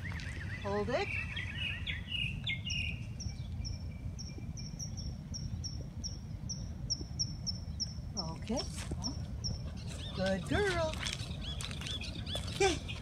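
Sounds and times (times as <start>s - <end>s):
bird chirping: 0.0s - 13.0s
low background rumble: 0.0s - 13.0s.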